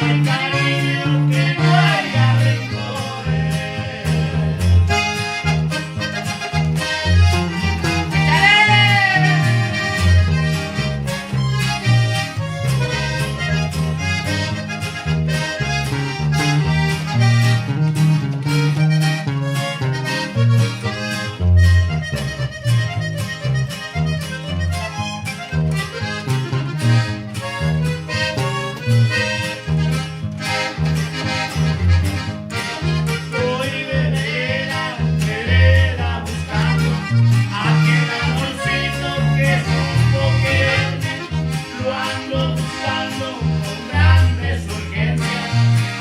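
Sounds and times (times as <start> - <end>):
accordion melody: 0.0 - 46.0
rhythmic bass line: 0.0 - 46.0
strummed guitar: 0.0 - 46.0.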